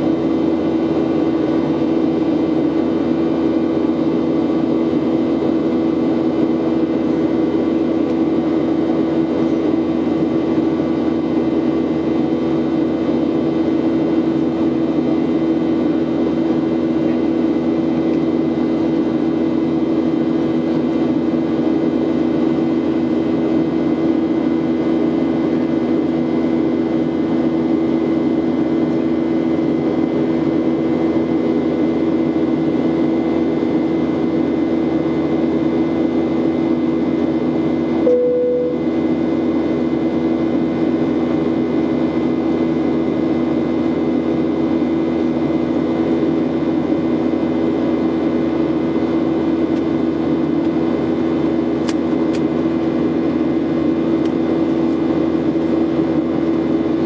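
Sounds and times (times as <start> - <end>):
constant low hum: 0.0 - 57.0
jet engines droning: 0.0 - 57.0.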